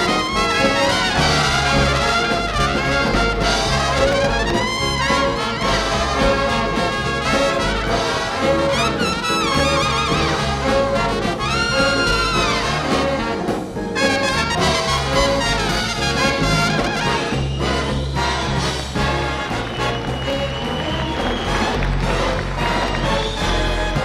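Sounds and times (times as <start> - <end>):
bass line: 0.0 - 24.0
trombones: 0.0 - 24.0
trumpet lines with bends: 0.0 - 24.0.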